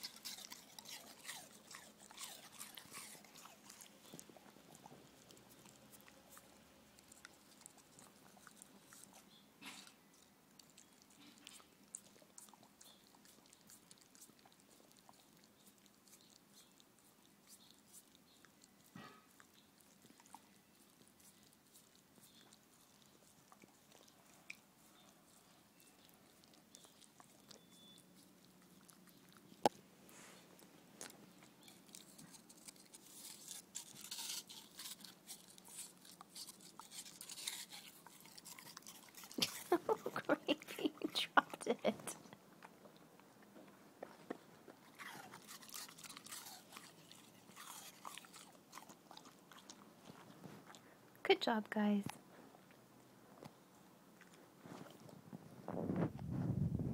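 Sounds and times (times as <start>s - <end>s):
dogs licking and chewing: 0.0s - 55.5s.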